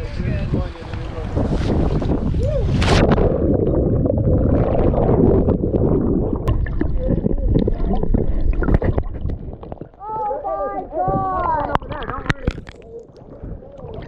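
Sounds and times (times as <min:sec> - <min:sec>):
underwater gurgling and bubbling: 0:00.0 - 0:14.0.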